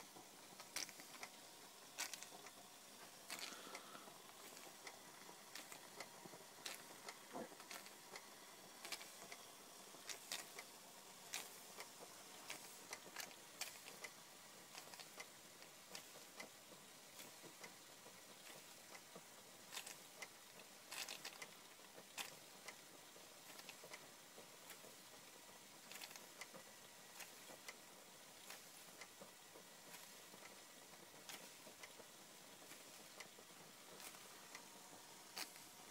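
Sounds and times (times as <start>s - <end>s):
soft steam hiss: 0.0s - 35.9s.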